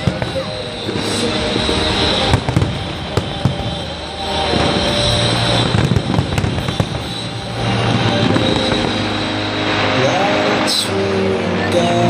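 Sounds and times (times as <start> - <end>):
fireworks bursting: 0.0 - 12.0
low rumble of fireworks: 0.0 - 12.0.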